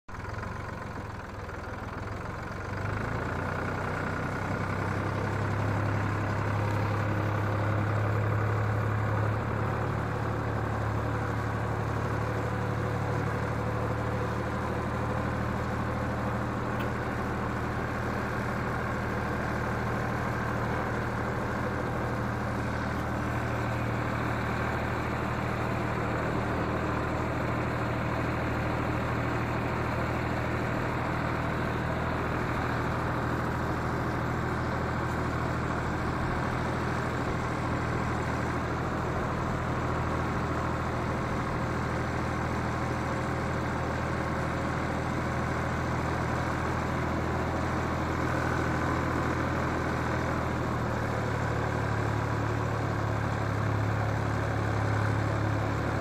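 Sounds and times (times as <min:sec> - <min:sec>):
tractor diesel engine running: 0:00.1 - 0:56.0.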